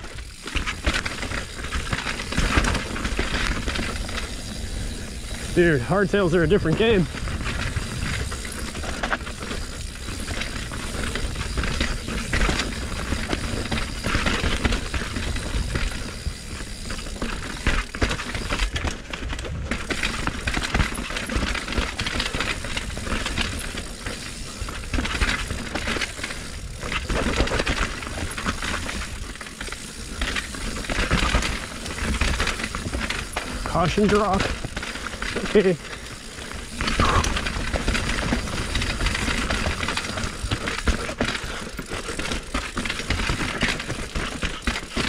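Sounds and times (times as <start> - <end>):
bike rattling metallic clinks: 0.0 - 45.0.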